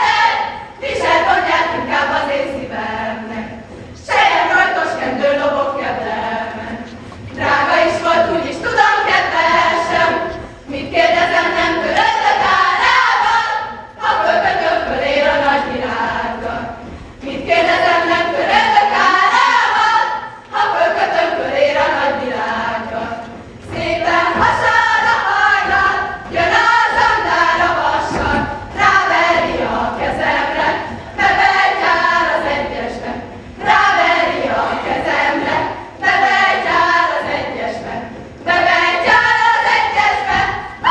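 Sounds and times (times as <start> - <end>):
women singing folk song in unison: 0.0 - 40.9.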